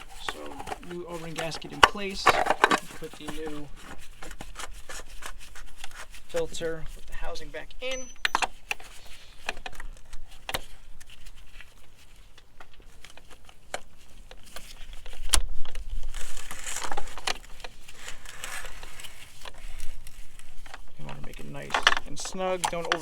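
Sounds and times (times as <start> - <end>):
tools being handled: 0.0 - 6.6, 7.8 - 15.4, 16.1 - 23.0
clicks and scraping of hand work: 0.0 - 23.0.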